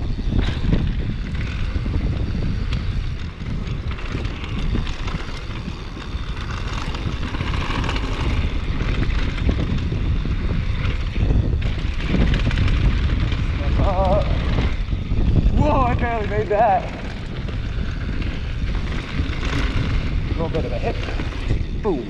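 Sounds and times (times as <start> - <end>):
bike rattling and knocking: 0.0 - 22.0
tyres rumbling on dirt: 0.0 - 22.0
wind rushing over microphone: 0.0 - 22.0.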